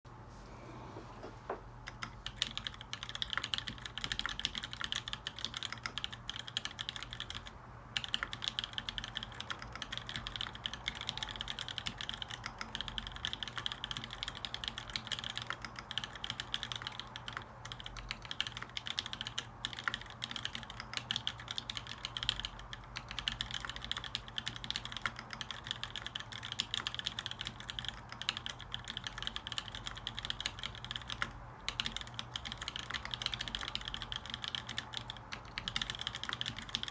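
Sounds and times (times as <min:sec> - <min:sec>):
mechanical keyboard typing: 0:01.8 - 0:36.9.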